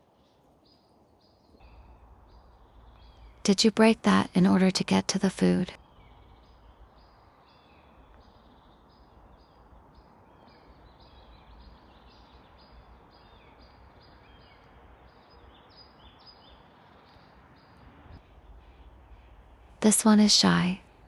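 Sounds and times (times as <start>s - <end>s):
faint songbird calling: 0.0s - 4.7s, 5.7s - 20.9s
soft outdoor background noise: 0.0s - 21.0s.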